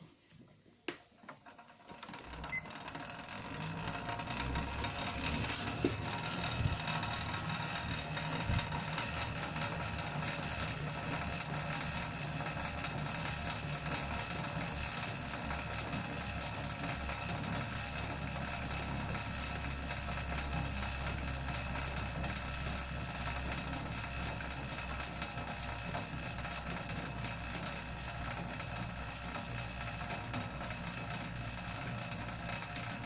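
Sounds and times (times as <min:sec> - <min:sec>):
spin bike flywheel ticking: 0:01.2 - 0:33.0.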